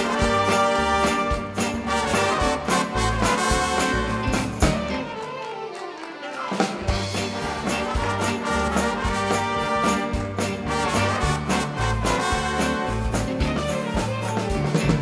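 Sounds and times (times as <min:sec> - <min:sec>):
brass band playing swing tune: 0:00.0 - 0:15.0.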